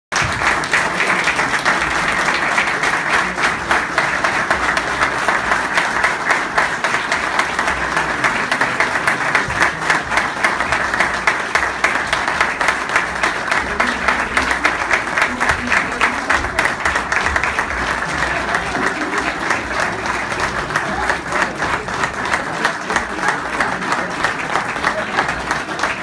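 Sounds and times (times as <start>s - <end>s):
crowd applauding: 0.1s - 26.0s.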